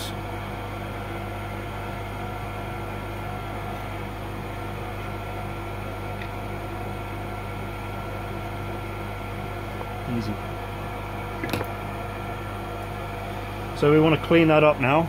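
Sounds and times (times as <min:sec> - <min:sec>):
extractor fan humming: 0:00.0 - 0:15.0.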